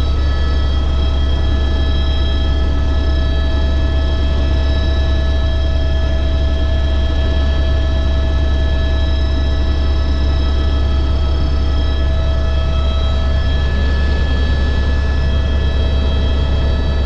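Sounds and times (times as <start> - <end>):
helicopter droning: 0.0 - 17.0
helicopter whining tones: 0.0 - 17.0.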